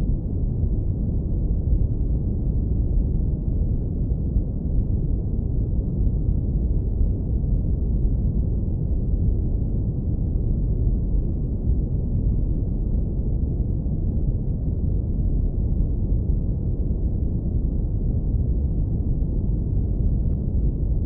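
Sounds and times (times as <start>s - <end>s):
low rumbling brown noise: 0.0s - 21.0s.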